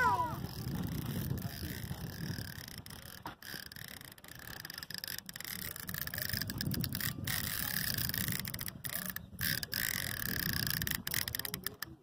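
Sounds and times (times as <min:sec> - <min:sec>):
wind buffeting microphone: 0:00.0 - 0:12.0
sharp clicks: 0:00.6 - 0:12.0.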